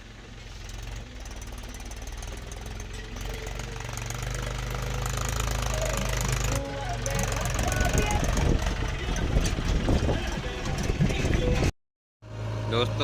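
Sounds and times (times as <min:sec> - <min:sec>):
heavy diesel engine knocking: 0:00.0 - 0:11.6.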